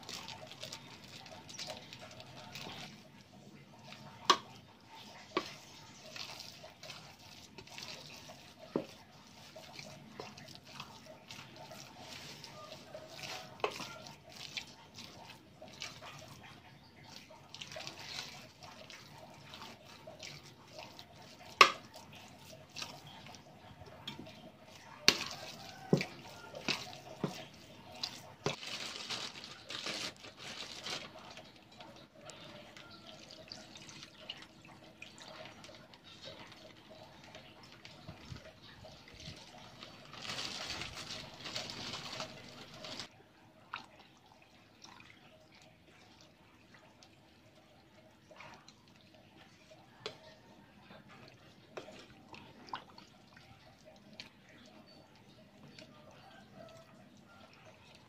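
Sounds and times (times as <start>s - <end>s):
wet squelching of mixed meat: 0.0s - 58.0s.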